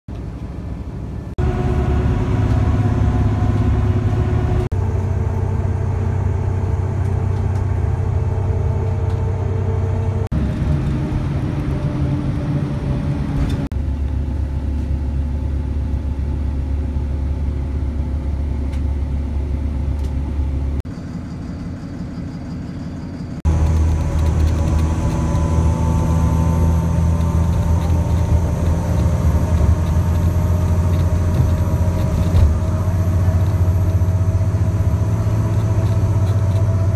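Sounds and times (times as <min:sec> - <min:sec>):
engine humming drone: 0:00.1 - 0:36.9.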